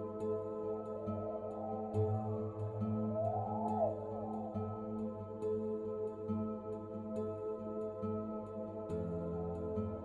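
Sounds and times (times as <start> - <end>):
calm ambient music: 0.0 - 10.0.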